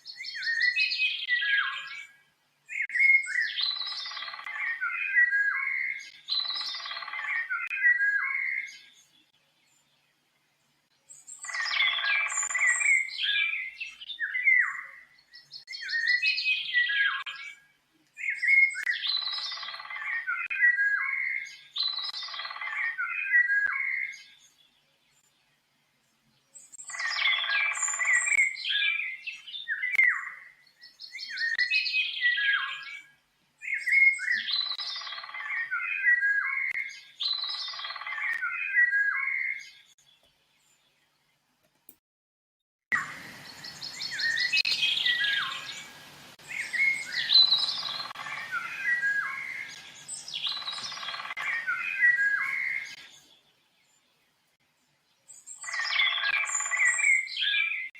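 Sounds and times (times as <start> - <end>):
songbird singing: 0.0 - 41.9, 42.9 - 57.9.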